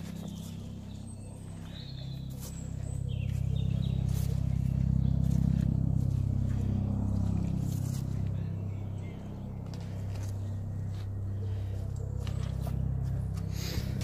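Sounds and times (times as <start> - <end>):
car engine idling: 0.0 - 14.0
footsteps on gravel: 0.0 - 14.0.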